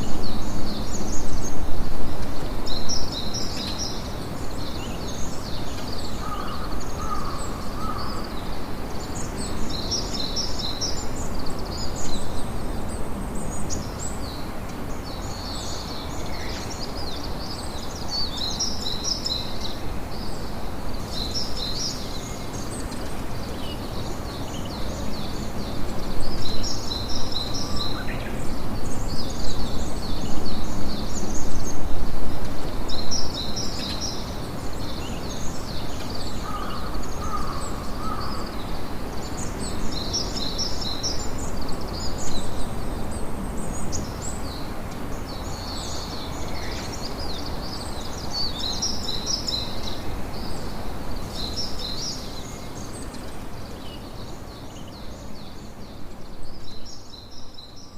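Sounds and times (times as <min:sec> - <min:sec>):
low background noise: 0:00.0 - 0:57.9
small birds chirping: 0:00.0 - 0:57.9.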